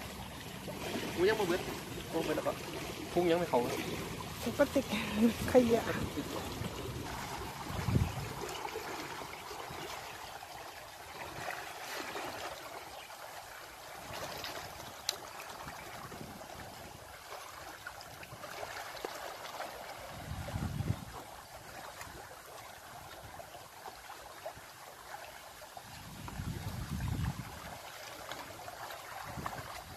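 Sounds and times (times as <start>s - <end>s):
floodwater rushing: 0.0s - 29.9s.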